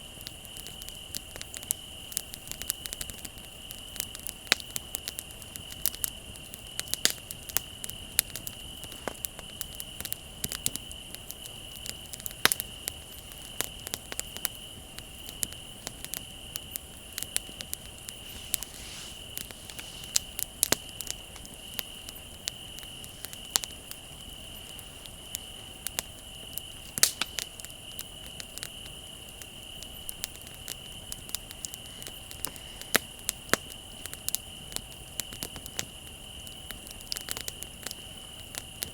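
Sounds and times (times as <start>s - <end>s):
crickets chirring: 0.0s - 38.9s
wood fire crackling: 0.0s - 38.9s.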